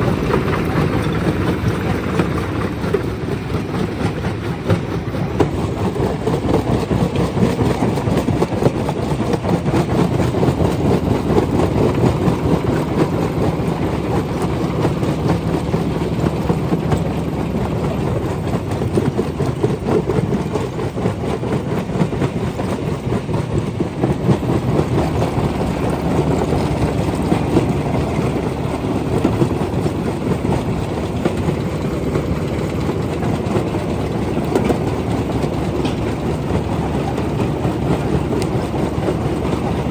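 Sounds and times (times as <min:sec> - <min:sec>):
machine low drone: 0:00.0 - 0:39.9.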